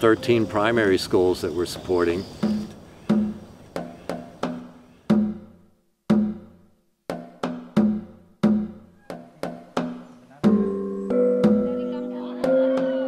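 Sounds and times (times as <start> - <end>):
pitched percussion notes: 0.0 - 5.4, 7.5 - 13.0.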